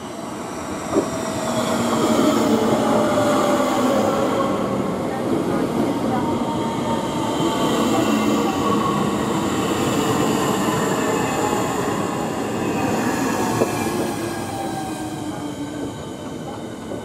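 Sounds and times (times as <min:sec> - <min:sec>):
train wheels rumbling on rails: 0:00.6 - 0:17.0.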